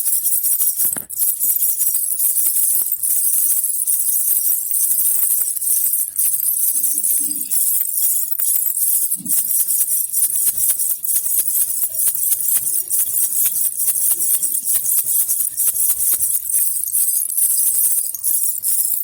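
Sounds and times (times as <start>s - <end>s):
baby rattle jingling: 0.0s - 19.0s.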